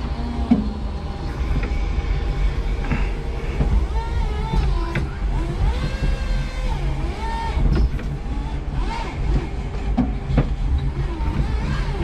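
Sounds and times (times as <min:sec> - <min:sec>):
electric forklift motor whining: 0:00.0 - 0:12.0.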